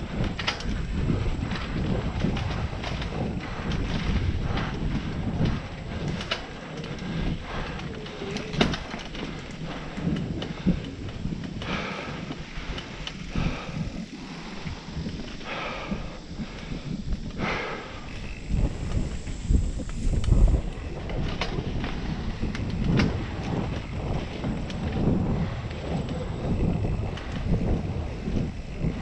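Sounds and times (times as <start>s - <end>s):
bike rattling and clicking: 0.0s - 29.0s
bike tyres on dirt: 0.0s - 29.0s
wind on microphone: 0.0s - 29.0s.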